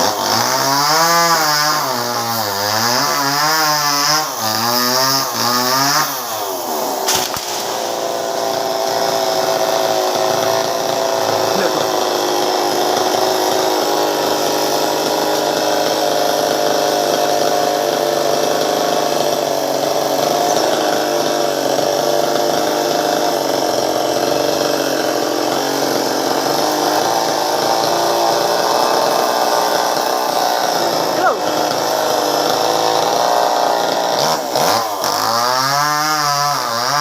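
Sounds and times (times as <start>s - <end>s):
chainsaw engine running: 0.0s - 37.0s.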